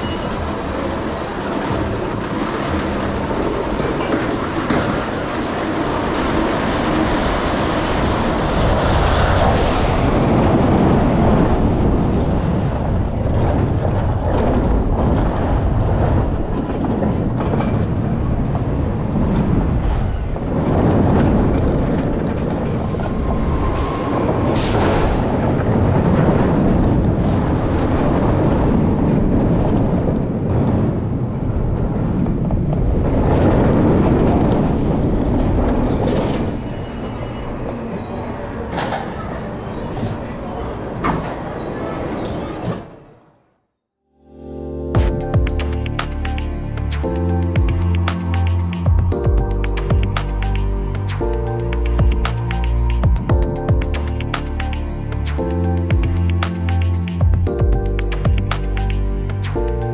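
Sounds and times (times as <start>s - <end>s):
roller coaster train rumbling: 0.0s - 43.3s, 45.0s - 59.9s.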